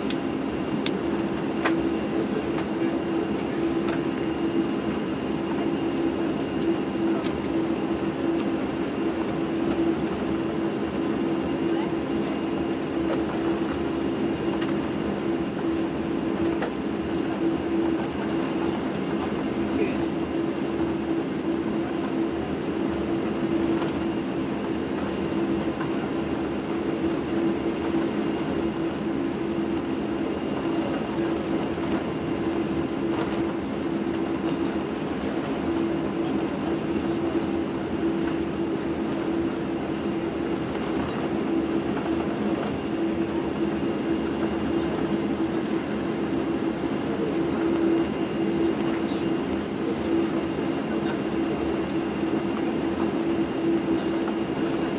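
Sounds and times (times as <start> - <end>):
jet engines droning: 0.0 - 54.9.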